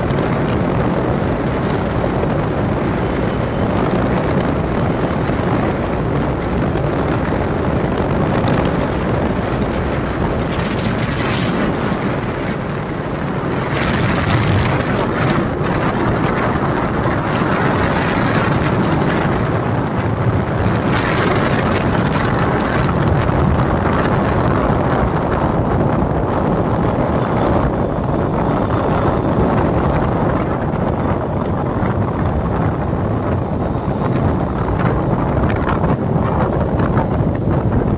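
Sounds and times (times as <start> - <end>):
motorcycle running: 0.0 - 37.9
wind buffeting microphone: 0.0 - 37.9.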